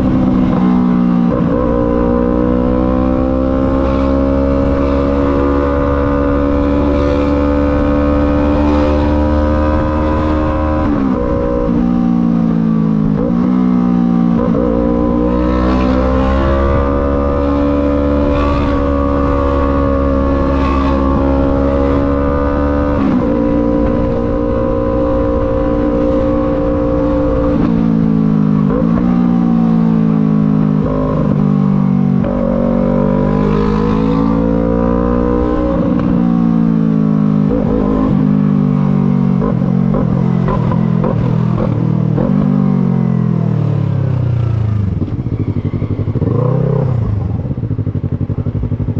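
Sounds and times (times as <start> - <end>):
motorcycle engine shifting gears: 0.0 - 48.9.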